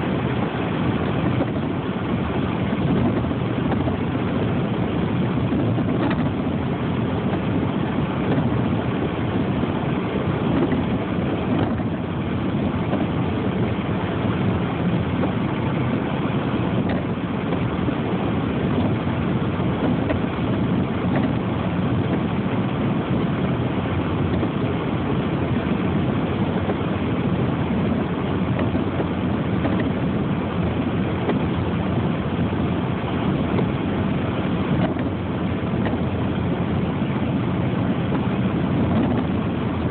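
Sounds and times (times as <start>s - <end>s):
vehicle running rumble: 0.0s - 39.9s.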